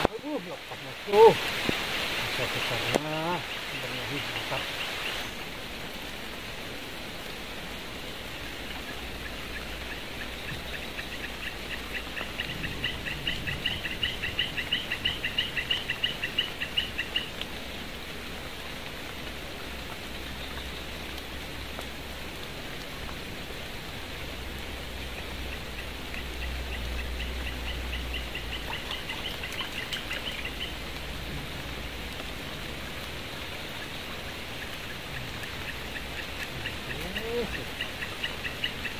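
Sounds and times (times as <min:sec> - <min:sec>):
rain hiss: 0:00.0 - 0:38.9.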